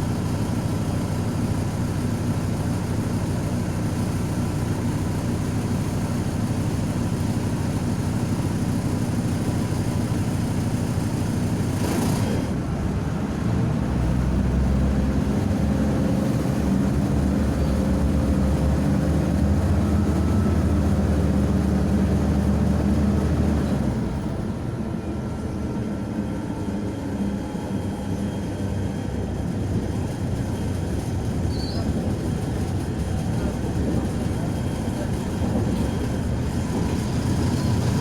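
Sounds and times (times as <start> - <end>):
bus diesel engine droning: 0.0 - 38.0
road noise: 5.8 - 38.0.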